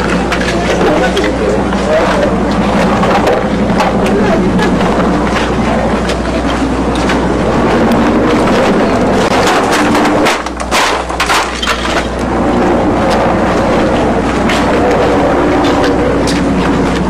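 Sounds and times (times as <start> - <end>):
debris cracking and crunching: 0.0 - 17.0
steady engine drone: 0.0 - 17.0.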